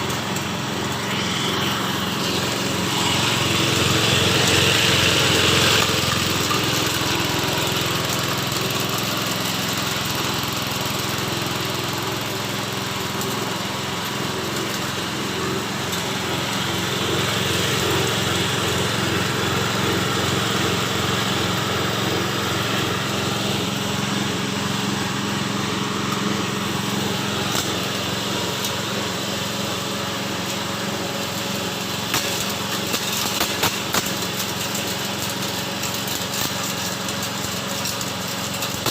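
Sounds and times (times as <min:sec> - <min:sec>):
small engine running a feed chopper: 0:00.0 - 0:38.9.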